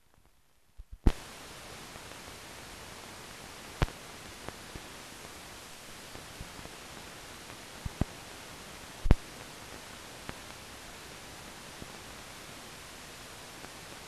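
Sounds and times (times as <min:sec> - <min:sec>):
faint crackles and pop: 0:00.0 - 0:14.0
film soundtrack hiss: 0:00.0 - 0:14.0.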